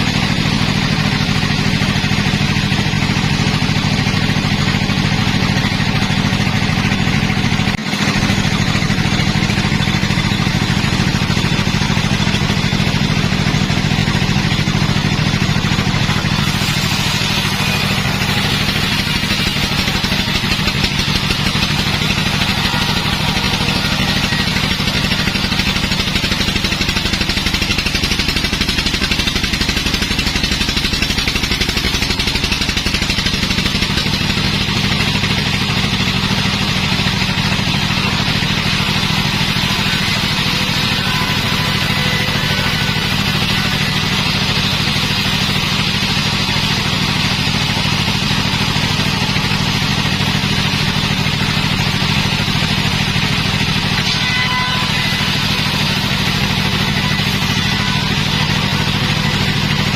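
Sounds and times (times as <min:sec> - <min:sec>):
sawmill machinery drone: 0:00.0 - 0:59.9
saw cutting into wood: 0:08.2 - 0:59.9.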